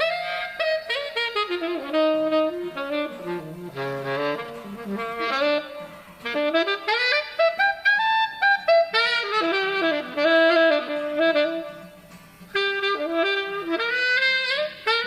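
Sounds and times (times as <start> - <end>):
wind instrument playing jazzy melody: 0.0 - 15.0.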